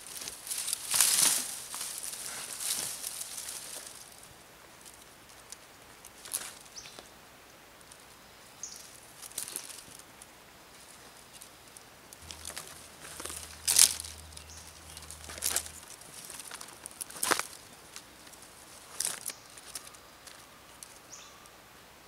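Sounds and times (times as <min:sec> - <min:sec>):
dry twigs rustling and crackling: 0:00.0 - 0:21.6.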